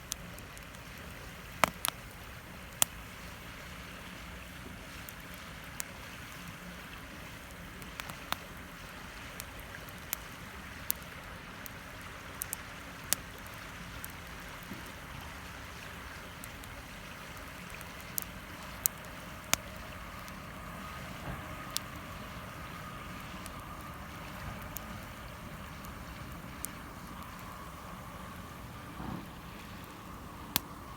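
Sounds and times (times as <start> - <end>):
river flowing: 0.0 - 30.9
wood fire crackling and popping: 0.0 - 30.9.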